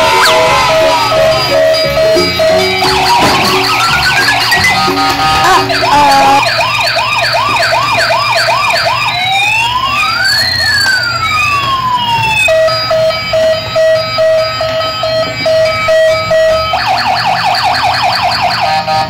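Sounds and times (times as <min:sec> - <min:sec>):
rapid electronic beeping: 0:00.0 - 0:18.5
rising and falling siren tones: 0:00.0 - 0:18.7
toy electronic siren wails: 0:00.0 - 0:19.0.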